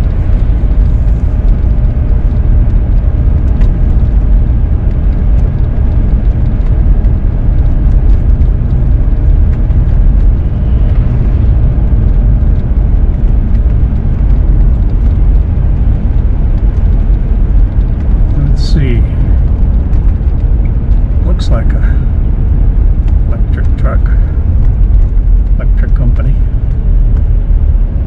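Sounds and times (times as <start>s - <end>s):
vehicle engine and road noise: 0.0s - 28.0s.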